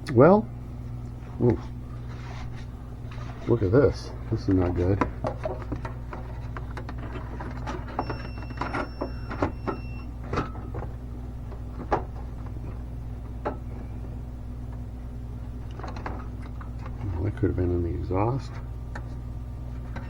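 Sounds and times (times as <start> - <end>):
smoke machine humming: 0.0 - 20.0.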